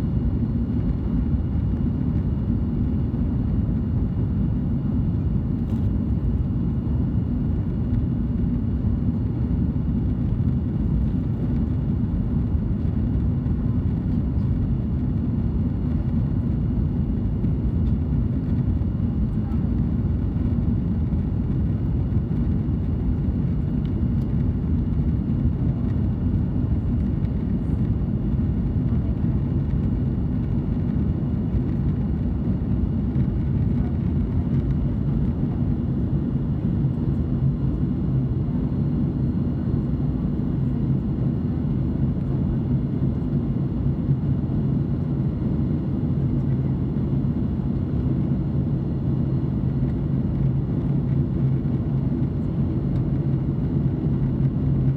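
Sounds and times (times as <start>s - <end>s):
jet engines droning: 0.0s - 54.9s.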